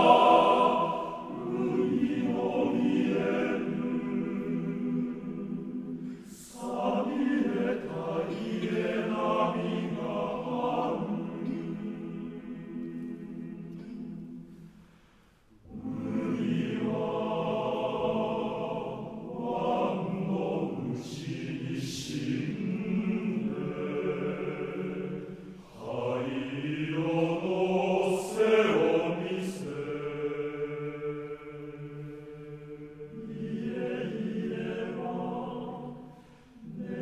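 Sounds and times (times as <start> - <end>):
male choir singing a cappella: 0.0 - 14.9, 15.6 - 37.0.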